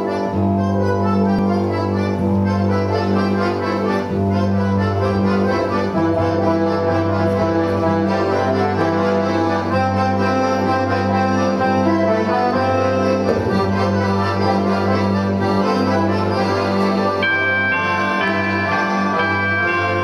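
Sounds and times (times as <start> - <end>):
accordion orchestra playing: 0.0 - 20.0.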